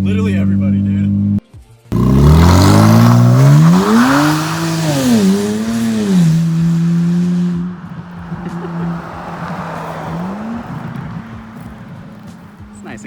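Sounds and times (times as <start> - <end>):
car engine revving loudly: 0.0 - 13.0.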